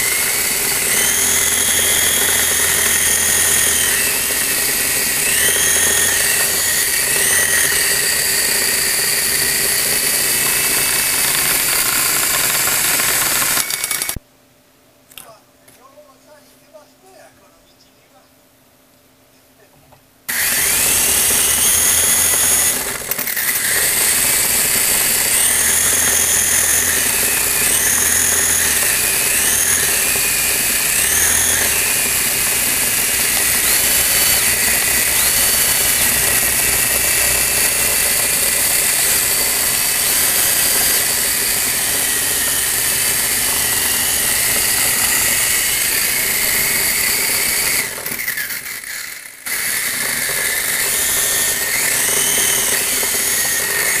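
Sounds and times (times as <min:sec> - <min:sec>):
toy motor whirring with whine: 0:00.0 - 0:14.2, 0:20.3 - 0:54.0.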